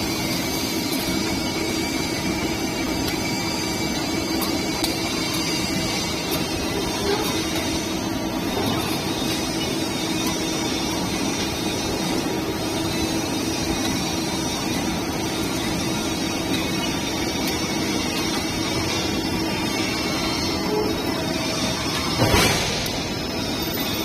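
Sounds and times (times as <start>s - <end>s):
machinery running with hum: 0.0s - 24.0s.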